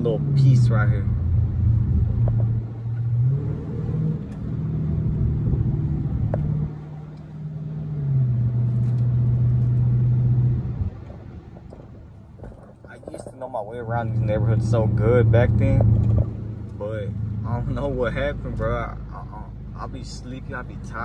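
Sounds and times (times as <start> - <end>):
car engine drone inside cabin: 0.0 - 21.0.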